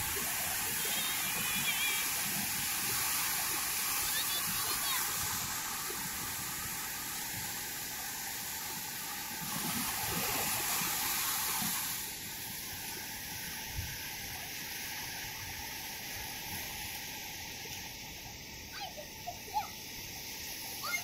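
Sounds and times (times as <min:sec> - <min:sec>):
small waves washing up beach: 0:00.0 - 0:21.0.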